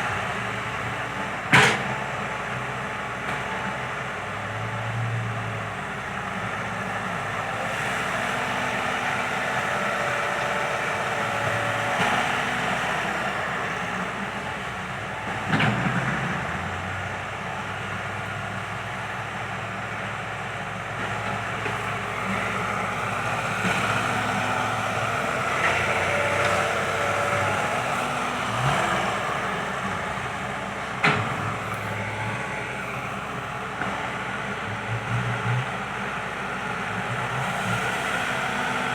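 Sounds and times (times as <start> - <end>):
excavator diesel engine working: 0.0 - 38.9.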